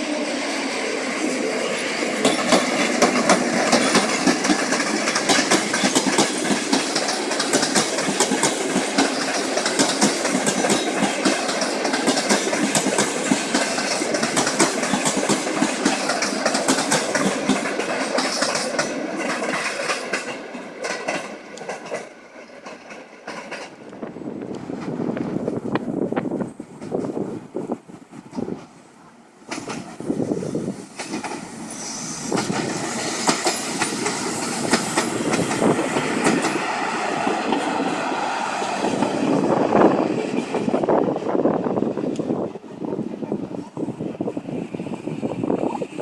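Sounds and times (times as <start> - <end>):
train wheels clattering on tracks: 0.0 - 28.8, 29.4 - 46.0.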